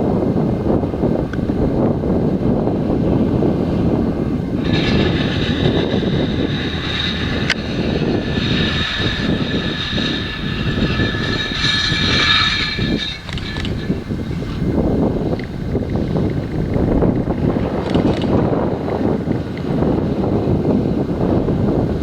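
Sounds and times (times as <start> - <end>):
diesel machinery drone: 0.0 - 22.0
high steady machine whine: 0.0 - 22.0.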